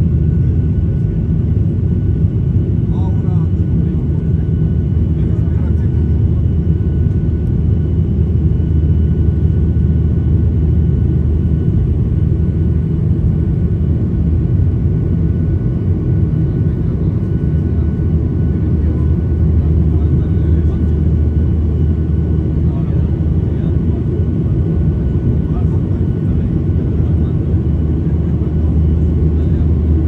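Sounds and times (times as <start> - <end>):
airliner engine and airflow rumble: 0.0 - 30.0.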